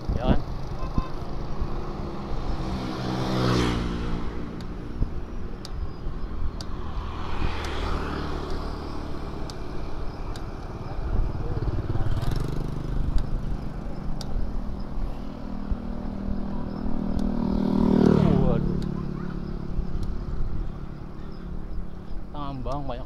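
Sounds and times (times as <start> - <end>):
motorcycle engine passing: 0.0 - 22.5
bicycle tyre rumble on asphalt: 0.0 - 23.0.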